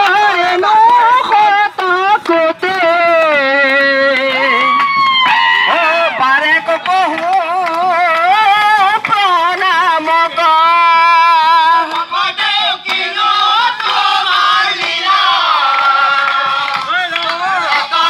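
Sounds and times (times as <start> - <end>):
person singing through loudspeaker: 0.0 - 5.0, 5.7 - 18.0.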